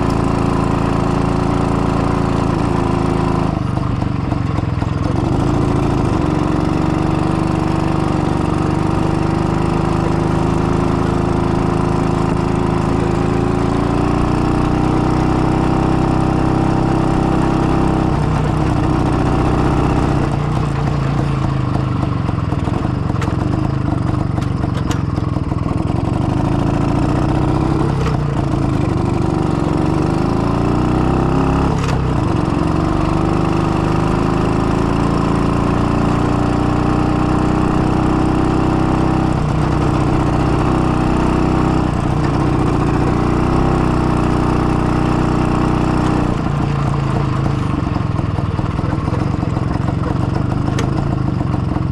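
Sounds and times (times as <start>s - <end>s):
two-stroke motorcycle engine revving: 0.0s - 51.9s.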